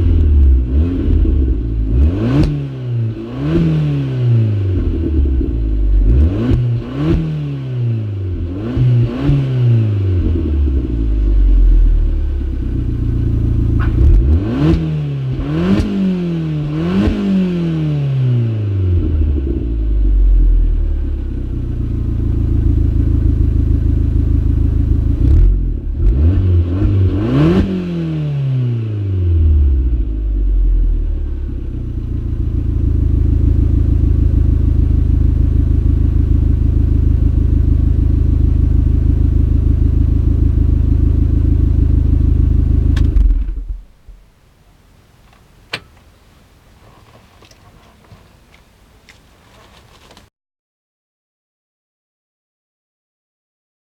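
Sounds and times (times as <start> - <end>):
car engine revving and idling: 0.0 - 44.3.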